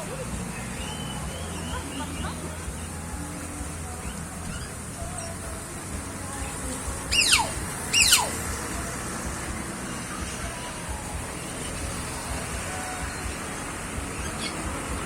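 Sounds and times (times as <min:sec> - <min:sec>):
bird squawking: 0:00.0 - 0:15.0.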